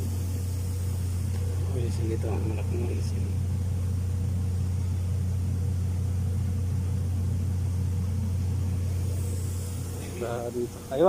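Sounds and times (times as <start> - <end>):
low machine engine drone: 0.0 - 11.0.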